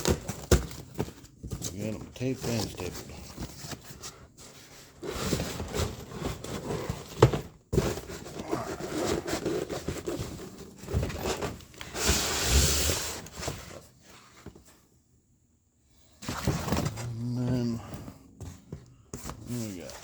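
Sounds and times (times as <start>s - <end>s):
cardboard scraping and rustling: 0.0s - 14.8s, 16.2s - 20.0s.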